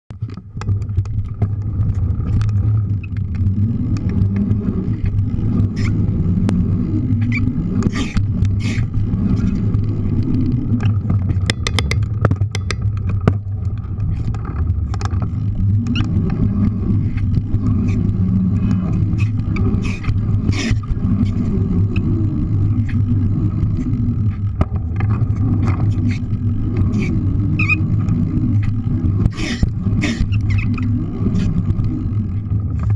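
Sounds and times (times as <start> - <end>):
bike tyres rolling on pavement: 0.2 - 32.9
sharp rattling clicks: 0.2 - 32.9.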